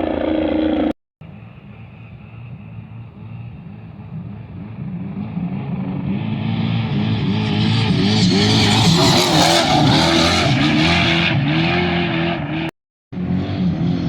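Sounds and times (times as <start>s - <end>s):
race vehicle engine revving: 2.1s - 14.0s.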